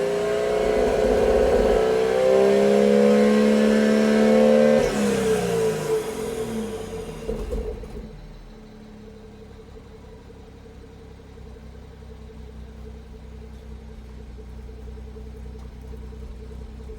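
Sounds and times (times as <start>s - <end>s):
car engine revving and idling: 0.0s - 16.9s.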